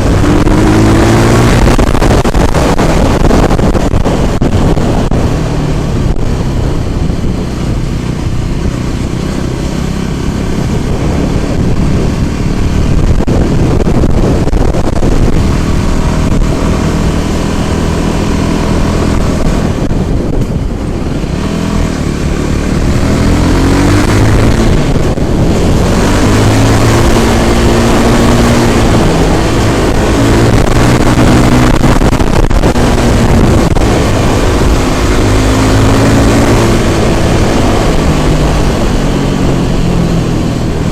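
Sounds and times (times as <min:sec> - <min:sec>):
scooter engine running: 0:00.0 - 0:40.9
wind noise on microphone: 0:00.0 - 0:40.9.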